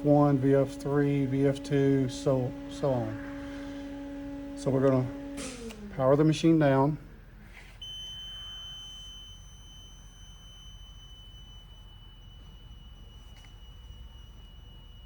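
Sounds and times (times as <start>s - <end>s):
high-pitched electronic whine: 0.0s - 7.2s, 7.8s - 15.0s
low electrical hum: 0.0s - 15.0s.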